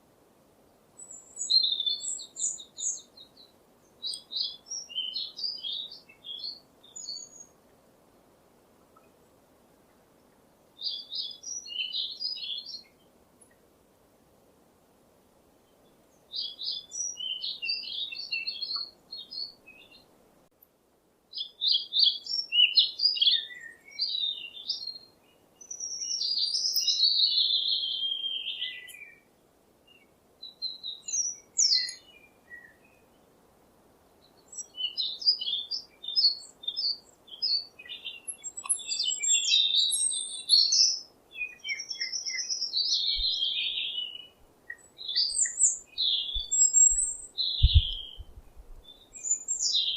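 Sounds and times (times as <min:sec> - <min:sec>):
songbird chirping and warbling: 0:01.0 - 0:07.7, 0:10.2 - 0:13.6, 0:15.6 - 0:20.1, 0:21.3 - 0:29.3, 0:29.9 - 0:33.3, 0:34.1 - 0:49.9.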